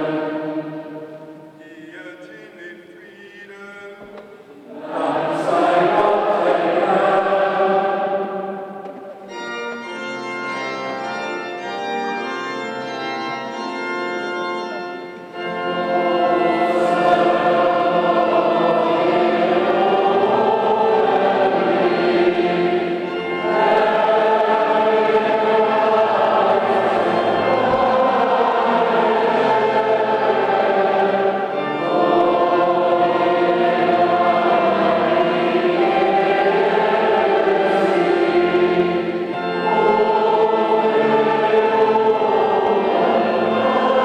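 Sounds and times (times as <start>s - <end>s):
congregation singing a hymn: 0.0s - 44.0s
pipe organ chords: 0.0s - 44.0s.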